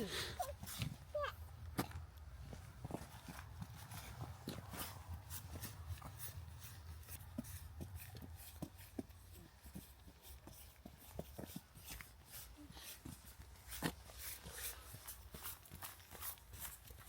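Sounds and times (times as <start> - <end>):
footsteps on forest path: 1.6 - 17.0.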